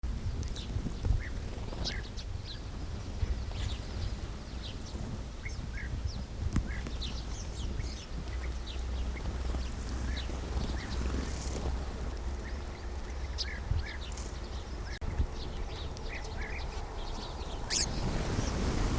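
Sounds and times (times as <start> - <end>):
sparrows chirping: 0.2 - 18.9.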